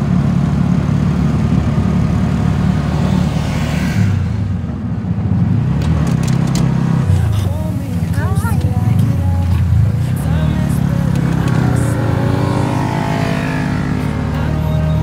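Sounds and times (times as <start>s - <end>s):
three-wheeler engine droning: 0.0s - 15.0s.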